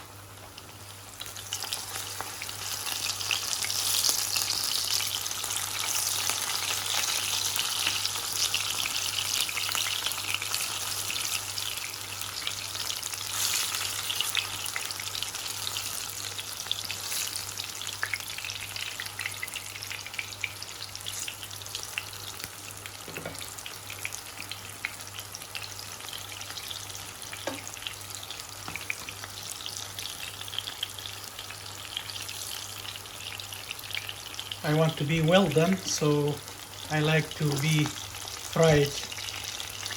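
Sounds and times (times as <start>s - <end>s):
vegetables sizzling in fat: 0.0s - 39.9s.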